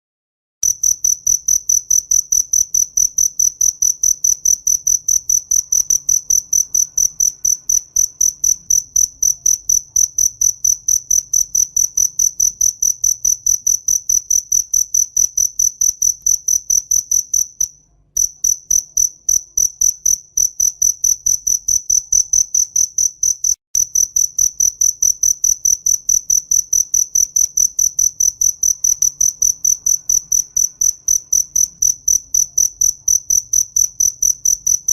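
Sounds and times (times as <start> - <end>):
cricket chirping: 0.6 - 34.9.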